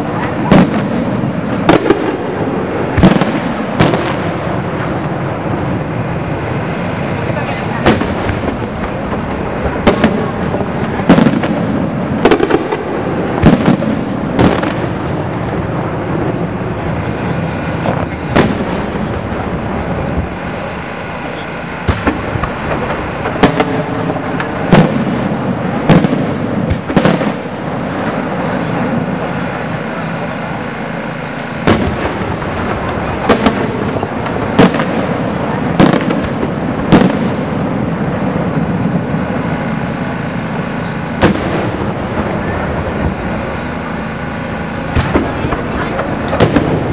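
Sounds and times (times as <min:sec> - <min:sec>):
fireworks crackle and rumble: 0:00.0 - 0:46.9
fireworks shells bursting: 0:00.4 - 0:46.9.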